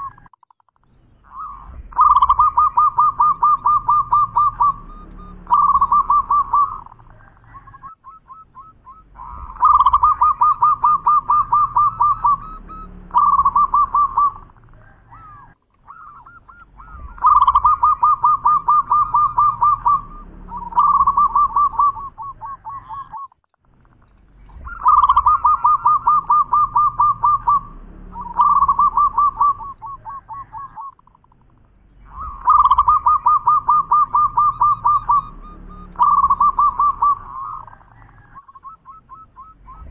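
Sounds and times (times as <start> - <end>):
dove cooing: 0.0 - 0.3, 1.1 - 39.9.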